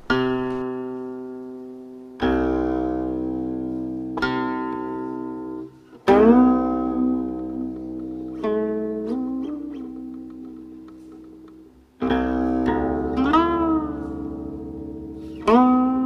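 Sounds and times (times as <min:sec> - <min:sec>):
plucked zither notes ringing: 0:00.0 - 0:01.5, 0:02.2 - 0:16.0.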